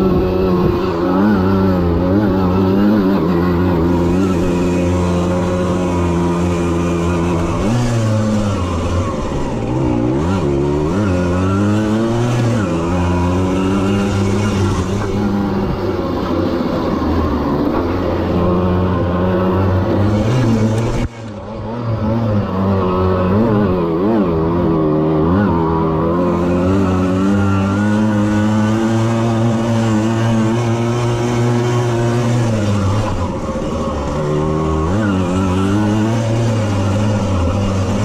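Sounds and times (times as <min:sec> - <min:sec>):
moped engine revving: 0:00.0 - 0:38.0.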